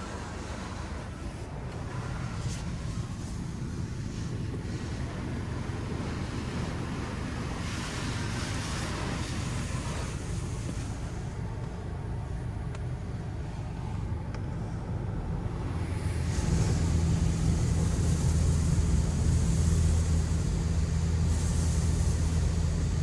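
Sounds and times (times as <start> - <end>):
car wash spray rushing: 0.0 - 23.0
low machine rumble: 0.0 - 23.0.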